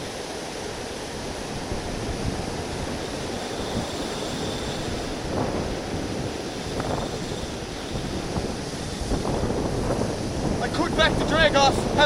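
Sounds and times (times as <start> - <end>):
surf washing on rocks: 0.0 - 12.0
wind buffeting microphone: 0.0 - 12.0.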